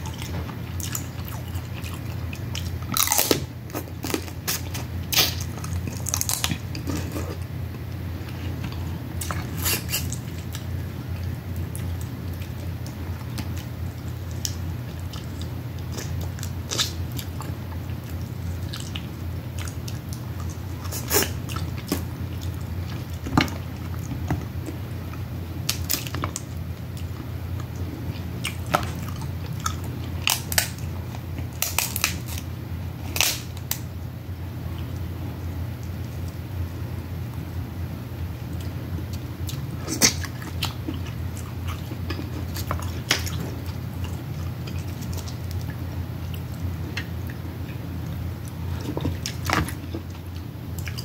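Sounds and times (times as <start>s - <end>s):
chewing and mouth smacking: 0.0s - 32.4s, 38.5s - 51.0s
steady low hum: 0.0s - 51.0s.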